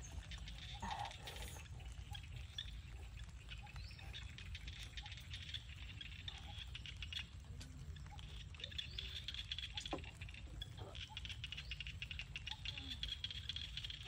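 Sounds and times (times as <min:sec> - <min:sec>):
steady low rumble: 0:00.0 - 0:12.5
faint rapid ticking and pattering: 0:00.0 - 0:14.0.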